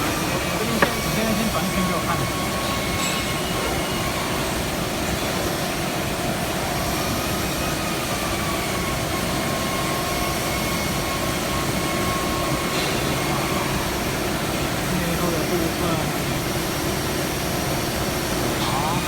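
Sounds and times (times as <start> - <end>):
machine whir: 0.0 - 19.0
thin whining tones: 0.0 - 19.0.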